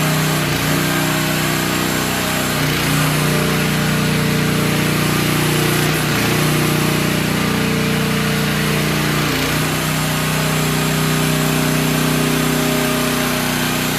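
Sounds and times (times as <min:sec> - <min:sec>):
small engine running: 0:00.0 - 0:13.9.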